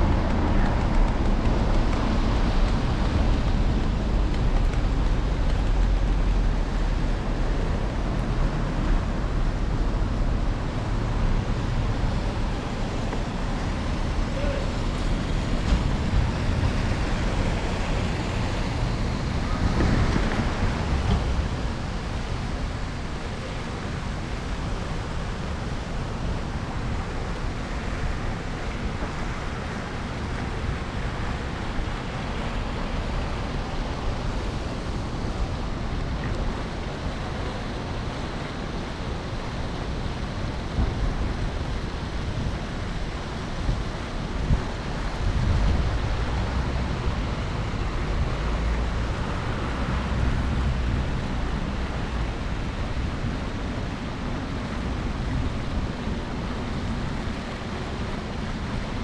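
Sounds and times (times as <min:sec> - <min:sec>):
street traffic noise: 0:00.0 - 0:59.0
wind rushing over microphone: 0:00.0 - 0:59.0.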